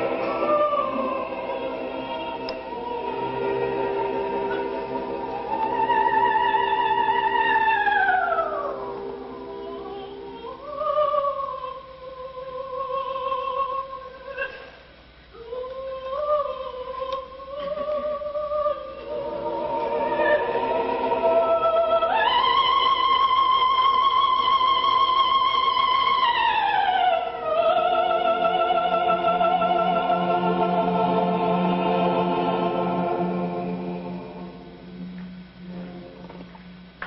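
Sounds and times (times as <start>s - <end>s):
soprano singing opera: 0.0s - 14.6s, 15.4s - 34.6s.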